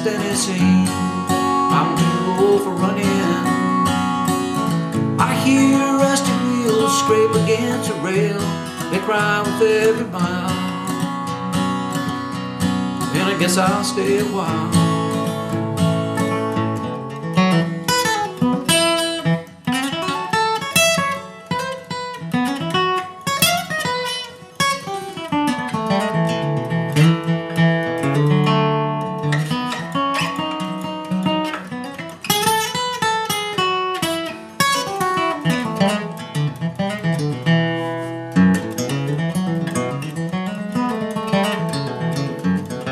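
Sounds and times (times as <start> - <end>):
acoustic guitar flatpicking: 0.0 - 42.9.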